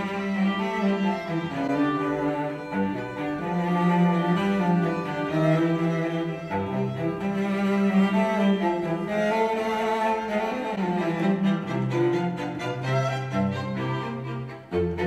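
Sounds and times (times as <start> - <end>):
classical string music over speakers: 0.0 - 15.0.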